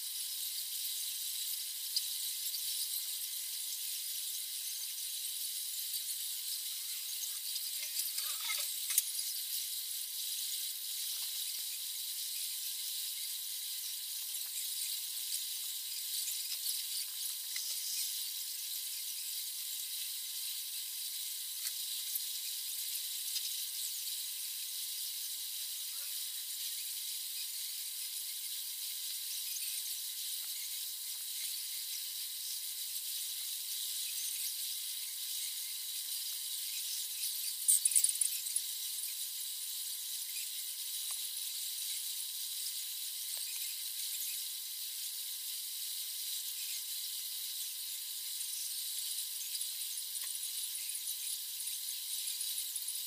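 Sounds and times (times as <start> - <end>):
high-pitched hiss: 0.0 - 53.0.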